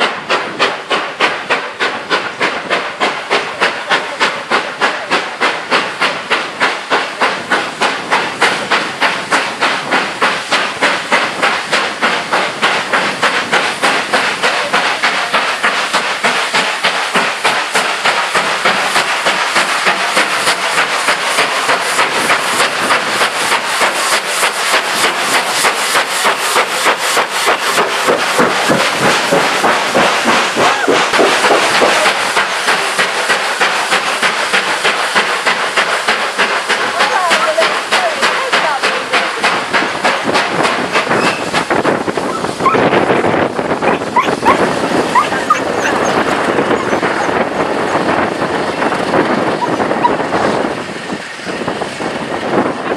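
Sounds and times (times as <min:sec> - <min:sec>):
steam locomotive exhaust beats: 0:00.0 - 0:52.9.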